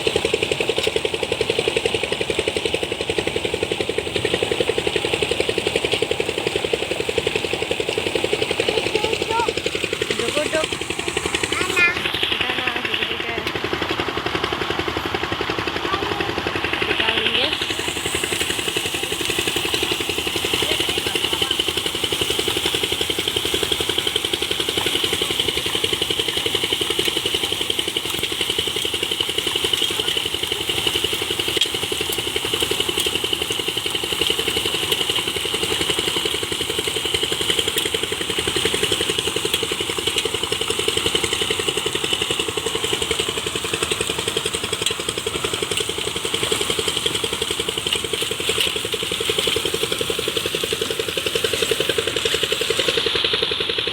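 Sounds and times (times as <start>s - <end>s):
engine chugging steadily: 0.0s - 53.9s.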